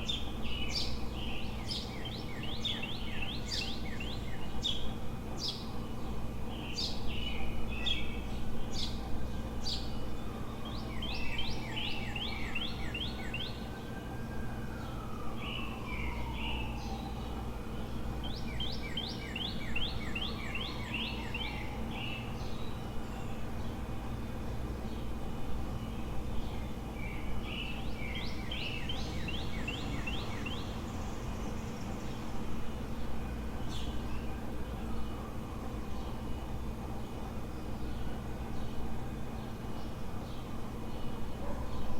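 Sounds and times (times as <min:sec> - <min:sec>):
songbird singing slurred notes: 0:00.0 - 0:13.8, 0:14.8 - 0:41.9
birds chirping: 0:00.0 - 0:14.0, 0:14.6 - 0:41.9
low city hum: 0:00.0 - 0:41.9.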